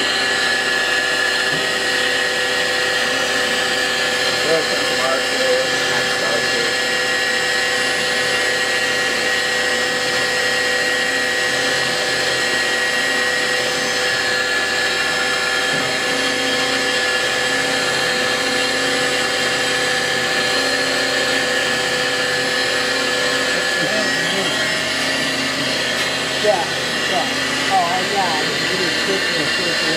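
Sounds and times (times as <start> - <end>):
lathe spindle whine: 0.0 - 29.9.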